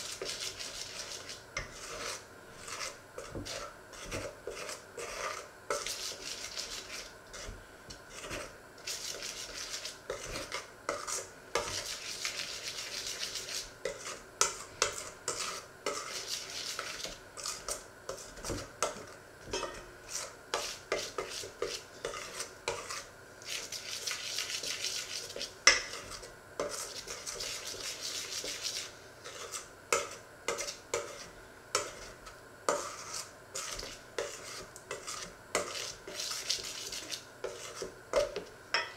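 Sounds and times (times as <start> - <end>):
spoon scraping metal bowl: 0.0 - 7.5, 8.1 - 38.9.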